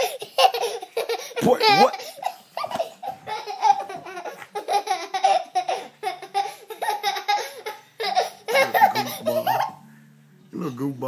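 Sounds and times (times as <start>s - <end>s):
toddler laughing: 0.0s - 9.8s.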